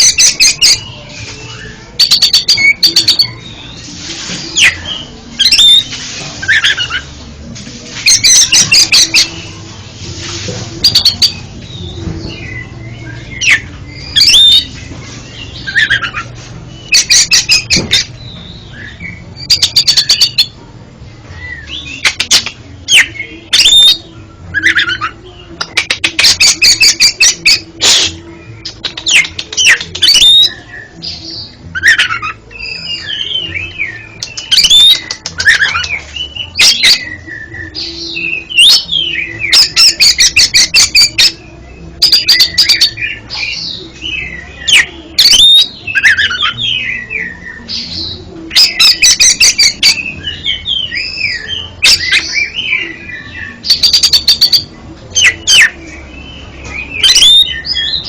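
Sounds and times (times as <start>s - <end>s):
bird singing whistled notes: 0.0s - 3.9s, 4.5s - 7.0s, 10.8s - 20.5s, 21.4s - 58.0s.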